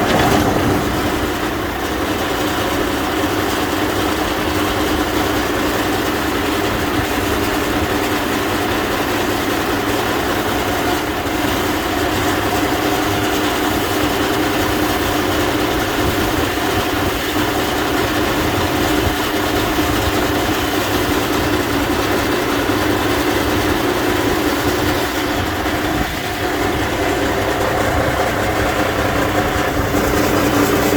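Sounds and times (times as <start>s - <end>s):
truck diesel engine idling: 0.0s - 30.9s.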